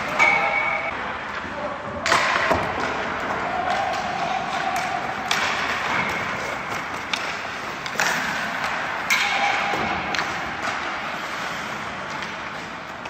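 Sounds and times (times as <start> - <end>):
hockey sticks cracking pucks: 0.0 - 13.0
skates scraping on ice: 2.2 - 13.0.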